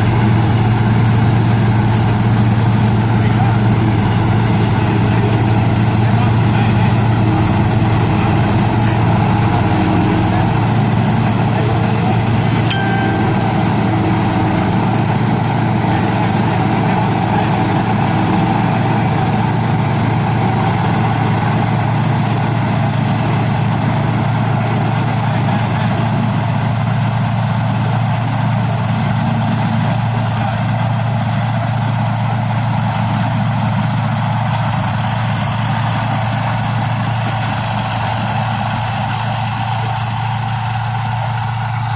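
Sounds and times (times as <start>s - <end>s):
harvester engine humming: 0.0s - 41.9s
high whine: 0.0s - 41.9s.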